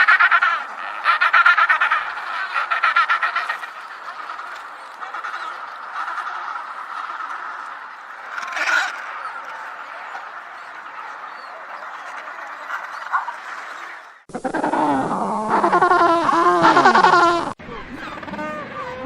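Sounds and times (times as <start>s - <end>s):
penguins calling: 0.0s - 19.0s.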